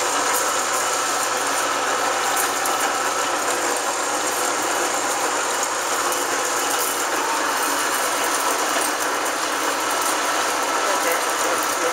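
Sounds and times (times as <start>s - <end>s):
lathe running and cutting: 0.0s - 11.9s.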